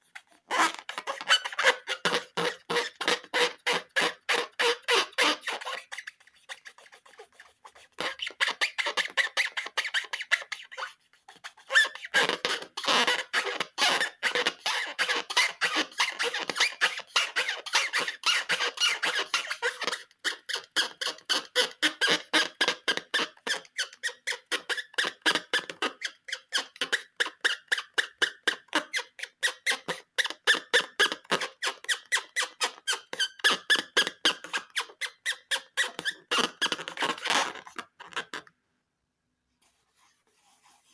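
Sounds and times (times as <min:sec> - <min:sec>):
rubber balloons squeaking: 0:00.2 - 0:38.5.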